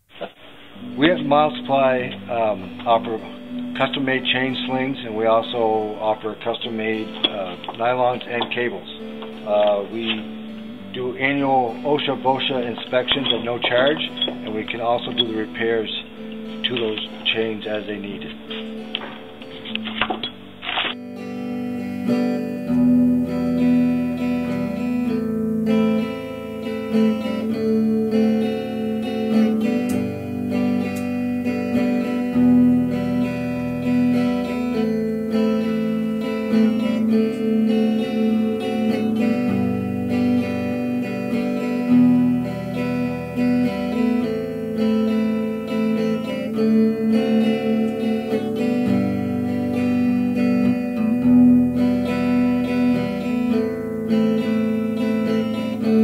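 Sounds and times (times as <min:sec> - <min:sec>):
strummed and plucked guitar: 0:00.0 - 0:56.0.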